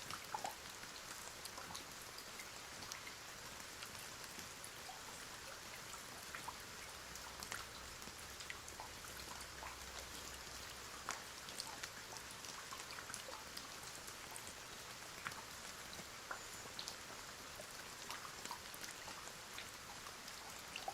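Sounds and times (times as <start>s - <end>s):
rain hiss: 0.0s - 20.9s.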